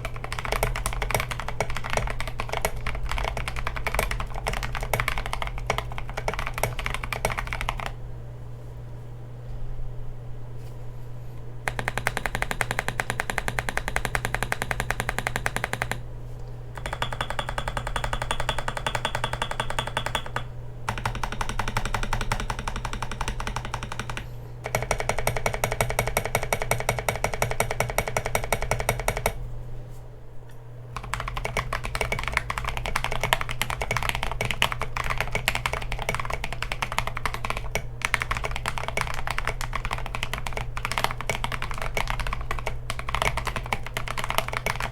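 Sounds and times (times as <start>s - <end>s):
typing on mechanical keyboard: 0.0s - 8.0s, 11.7s - 16.0s, 16.8s - 29.4s, 31.0s - 44.9s.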